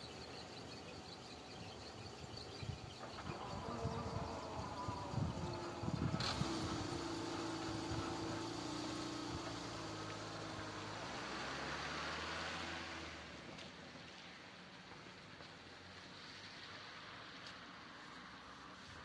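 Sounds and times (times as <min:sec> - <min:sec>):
car engine idling and pulling away: 0:00.0 - 0:19.0
tyres hissing on wet asphalt: 0:03.3 - 0:19.0.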